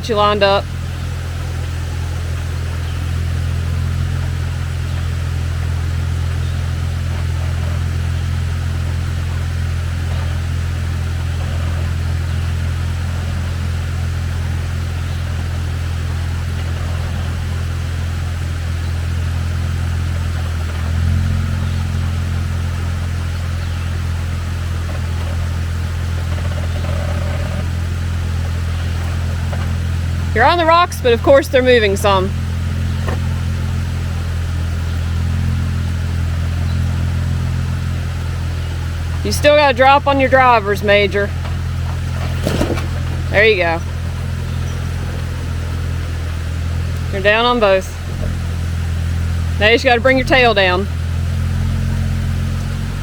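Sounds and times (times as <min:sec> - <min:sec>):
engine revving: 0:00.0 - 0:53.0
off-road vehicle engine idling: 0:00.0 - 0:53.0.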